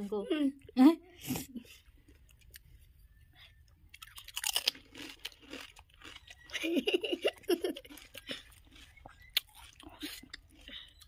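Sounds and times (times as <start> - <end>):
crunching and chewing: 1.7 - 11.0.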